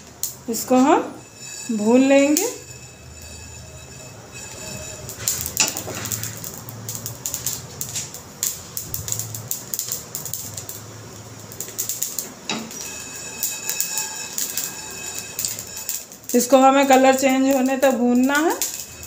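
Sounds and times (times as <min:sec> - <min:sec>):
seeds crackling in a pan: 0:00.0 - 0:19.0.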